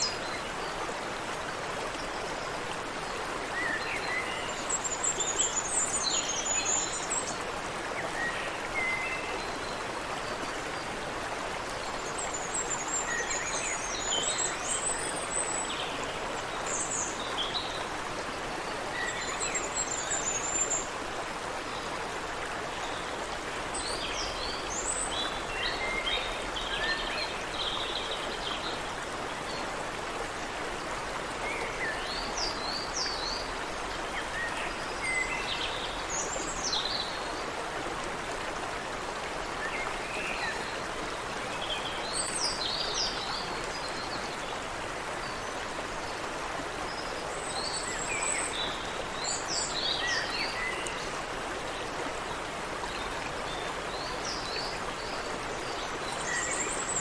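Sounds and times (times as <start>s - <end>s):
creek running over rocks: 0.0s - 57.0s.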